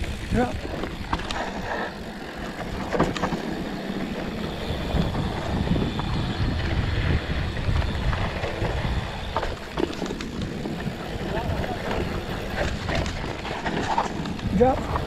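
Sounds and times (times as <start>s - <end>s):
bike chain and frame rattles: 0.0s - 15.0s
bike tyres crunching over dirt: 0.0s - 15.0s
wind rumble on microphone: 0.0s - 15.0s.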